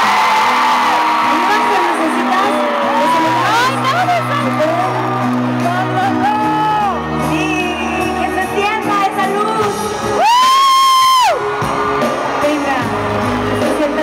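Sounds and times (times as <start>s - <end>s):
audience cheering: 0.0s - 9.0s, 10.0s - 14.0s
band playing: 0.0s - 14.0s.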